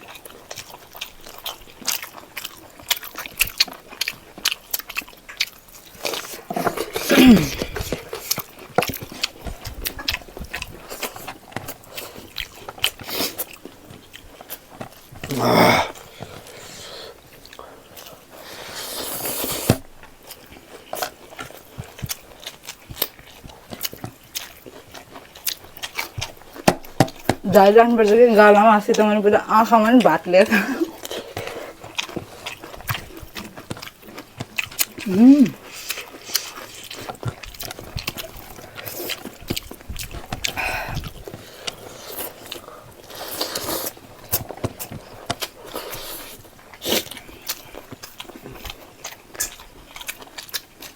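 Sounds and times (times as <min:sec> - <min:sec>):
person chewing and biting food: 0:00.0 - 0:27.5, 0:30.7 - 0:50.9.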